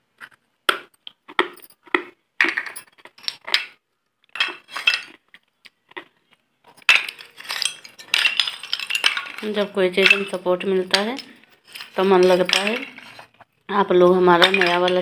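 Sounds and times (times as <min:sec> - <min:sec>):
terracotta pieces clinking: 0:00.2 - 0:15.0.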